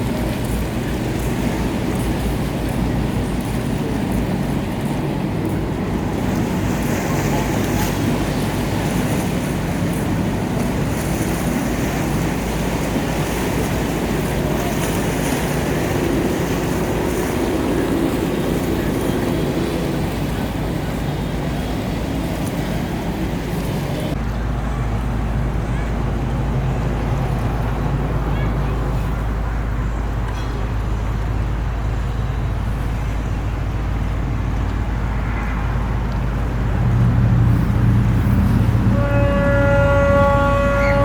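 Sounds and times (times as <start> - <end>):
boat engine running: 0.0 - 41.0
water noise: 0.0 - 41.0
wind: 0.0 - 41.0.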